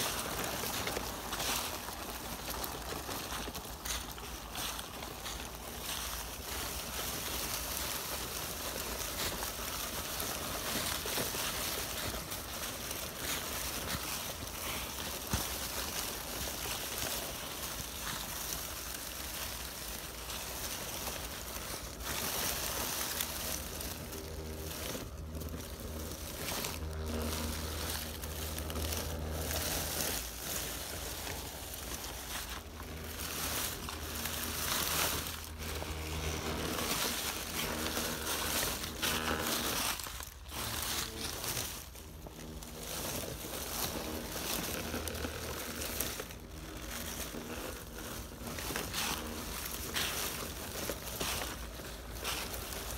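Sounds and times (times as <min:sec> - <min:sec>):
dry leaves rustling and crunching: 0:00.0 - 0:52.9
small electric motor whine: 0:00.0 - 0:52.9.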